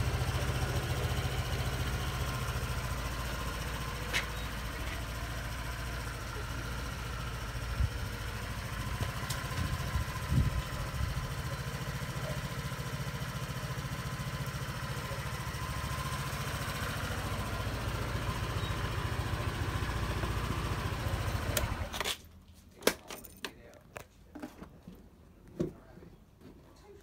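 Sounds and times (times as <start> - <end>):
scooter engine idling: 0.0 - 22.0.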